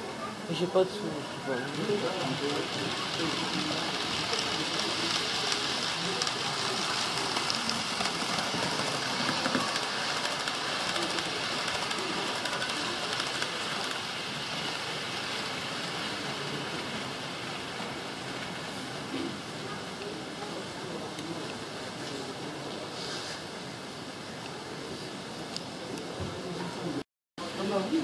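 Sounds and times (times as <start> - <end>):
model train rolling on track: 0.0 - 28.0.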